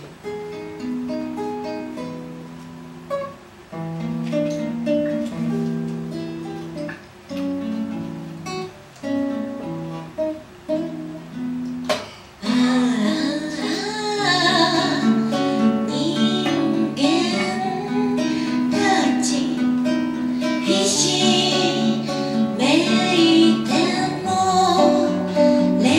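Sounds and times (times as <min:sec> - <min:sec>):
acoustic guitar playing: 0:00.0 - 0:25.9.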